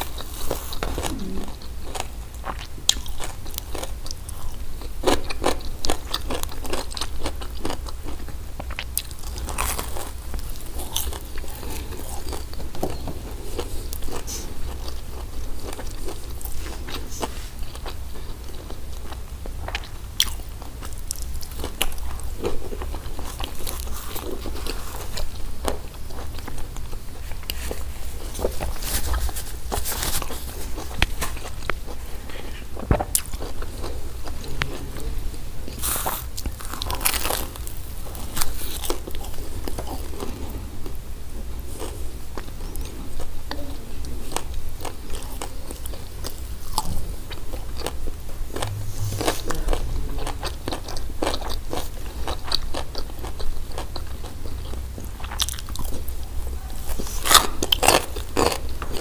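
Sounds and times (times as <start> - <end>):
chewing crispy bread: 0.0 - 59.0.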